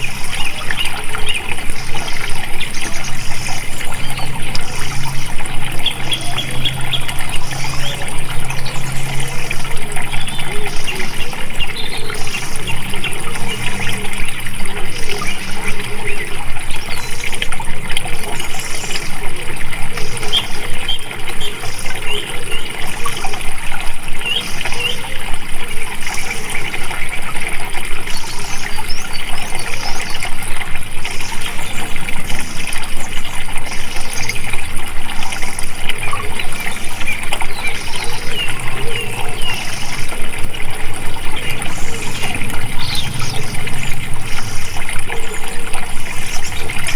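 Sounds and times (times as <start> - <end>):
small birds chirping: 0.0 - 25.4, 31.1 - 46.9
water flowing and splashing: 0.0 - 46.9.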